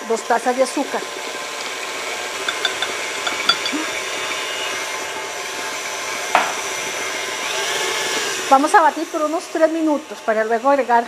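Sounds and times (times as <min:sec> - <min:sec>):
stand mixer running: 0:00.8 - 0:11.0.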